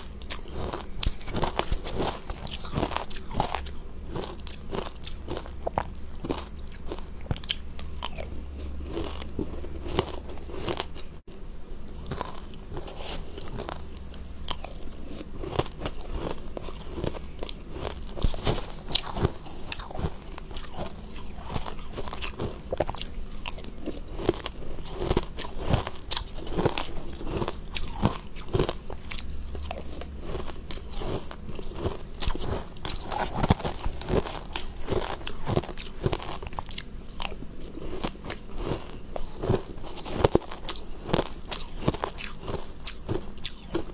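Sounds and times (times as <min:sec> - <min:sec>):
chewing crushed ice: 0:00.0 - 0:11.2, 0:11.9 - 0:43.9.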